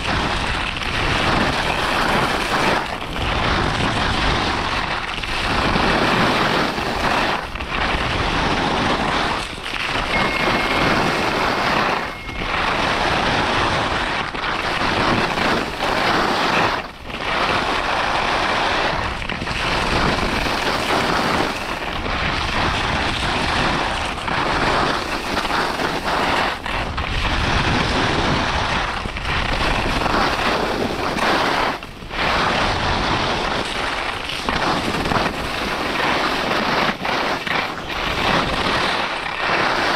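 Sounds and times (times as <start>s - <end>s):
skis scraping on snow: 0.0s - 39.9s
wind on microphone: 0.0s - 39.9s.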